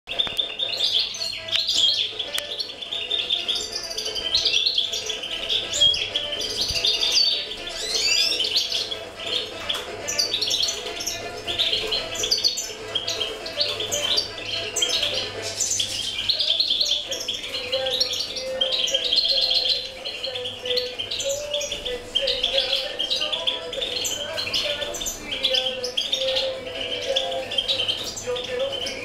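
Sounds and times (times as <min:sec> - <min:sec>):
small birds chirping and twittering: 0:00.1 - 0:29.0.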